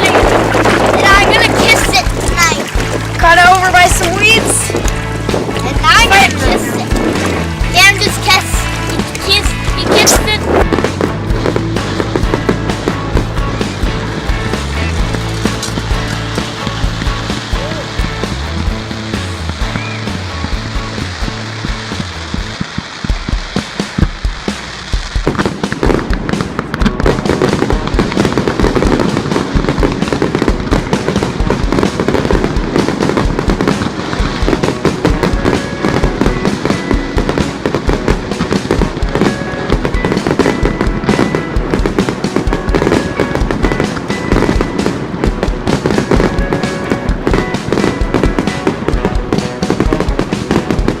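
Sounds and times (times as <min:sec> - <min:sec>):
fireworks banging and crackling: 0:00.0 - 0:51.0
music with steady beat: 0:00.8 - 0:51.0.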